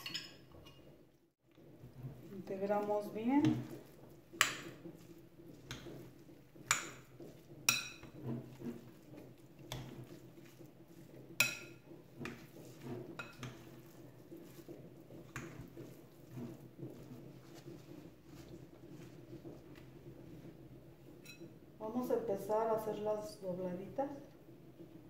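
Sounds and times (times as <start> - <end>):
food squishing by hand: 0.9 - 21.8.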